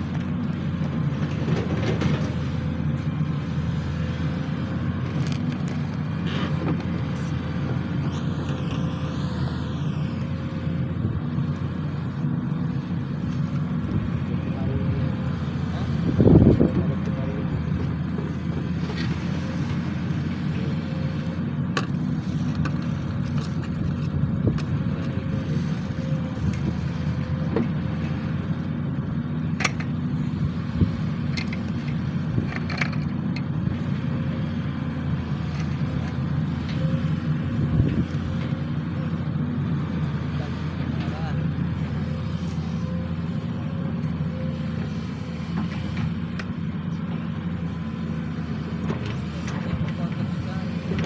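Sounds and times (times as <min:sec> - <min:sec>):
excavator diesel engine: 0:00.0 - 0:51.0.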